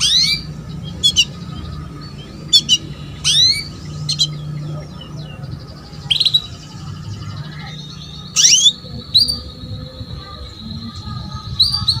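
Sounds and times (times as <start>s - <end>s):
canary chirps: 0.0s - 12.0s
high bird trill: 0.0s - 12.0s
low hum: 0.0s - 12.0s.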